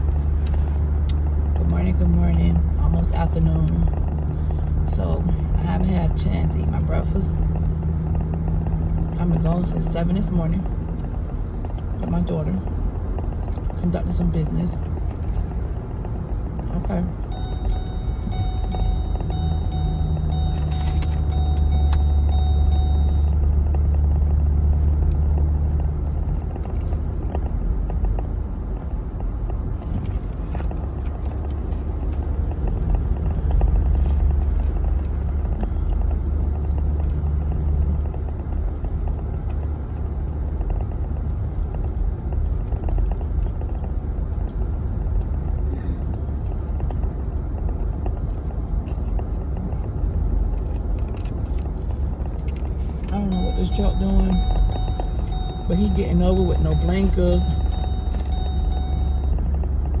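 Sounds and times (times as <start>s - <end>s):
car engine drone: 0.0s - 60.0s
road rumble: 0.0s - 60.0s.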